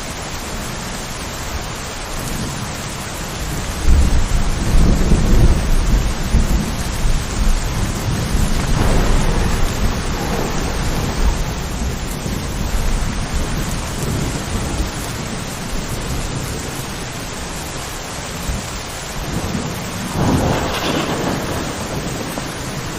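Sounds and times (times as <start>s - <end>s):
steady rain falling: 0.0s - 22.9s
deep thunder rumbling: 2.4s - 22.9s.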